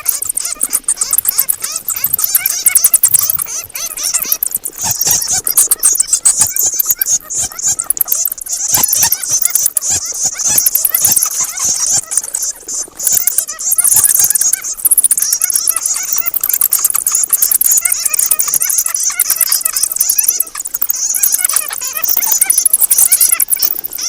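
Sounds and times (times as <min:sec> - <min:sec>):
bats chattering and squeaking: 0:00.0 - 0:24.0.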